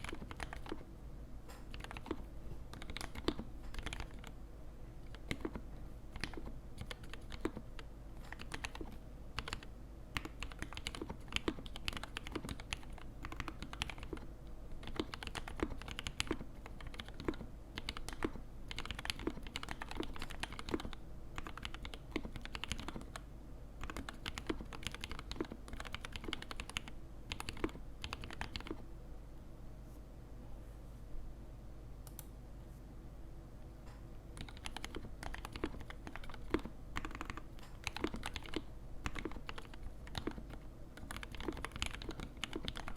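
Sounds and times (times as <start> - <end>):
mechanical keyboard typing: 0.0 - 0.8, 1.6 - 4.4, 5.1 - 23.2, 23.8 - 28.8, 34.4 - 42.9
low background hum: 0.0 - 42.9.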